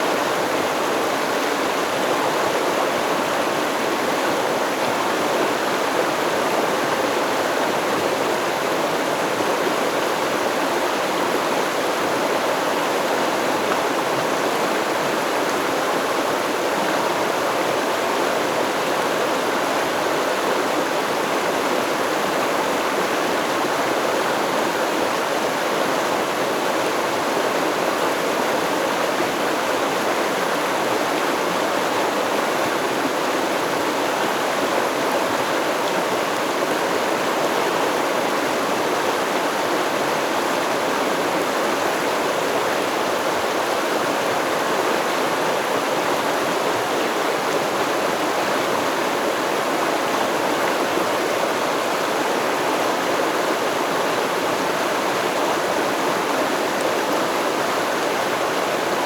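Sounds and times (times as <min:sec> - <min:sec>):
river stream rushing: 0:00.0 - 0:59.0.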